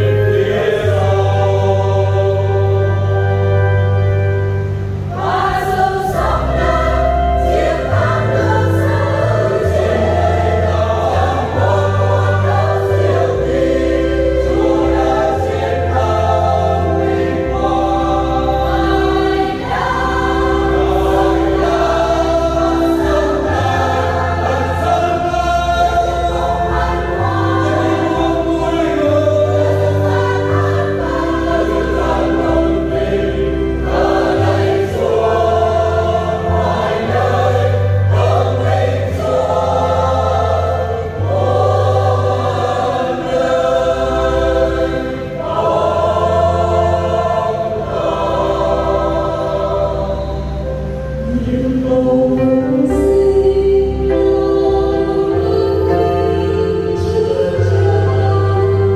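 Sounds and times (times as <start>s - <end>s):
choir singing a hymn: 0.0s - 58.9s
sustained bass accompaniment: 0.0s - 58.9s.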